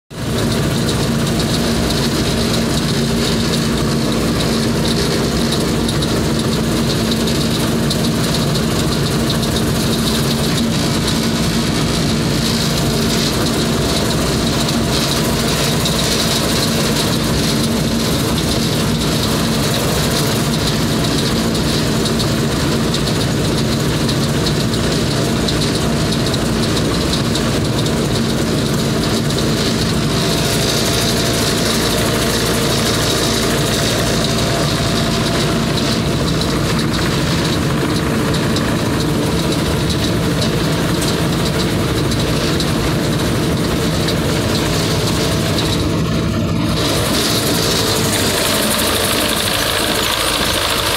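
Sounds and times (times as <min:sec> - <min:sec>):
tractor engine humming: 0:00.1 - 0:50.9.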